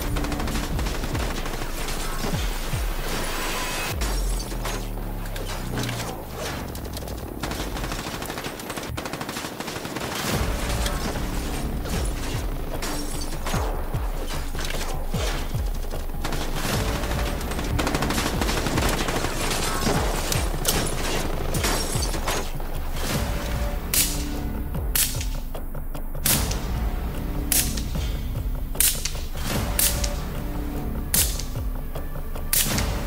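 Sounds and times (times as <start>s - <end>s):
music with heavy beat: 0.0s - 5.2s, 10.3s - 33.0s
rapid rifle fire: 0.0s - 25.5s, 28.7s - 30.3s.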